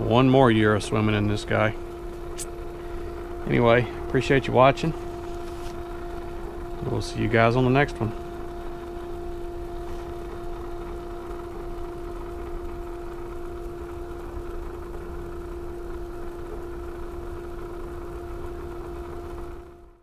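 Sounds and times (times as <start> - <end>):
motor whining hum: 0.0 - 20.0.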